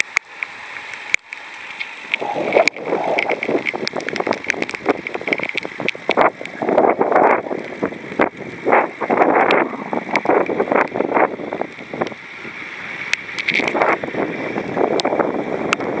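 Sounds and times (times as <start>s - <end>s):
bicycle tyres hissing on wet road: 0.0s - 16.0s
wind gusting on microphone: 1.9s - 16.0s.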